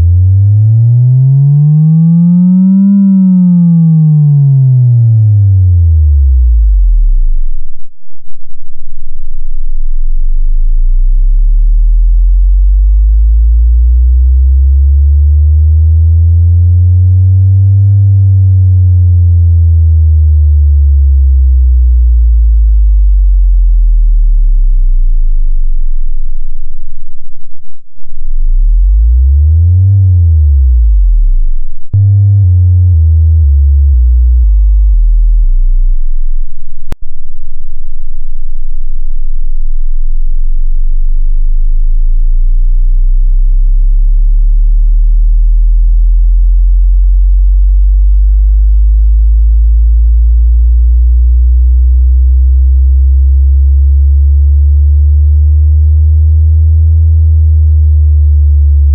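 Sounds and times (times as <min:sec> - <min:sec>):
deep bass test tones: 0:00.0 - 0:58.9.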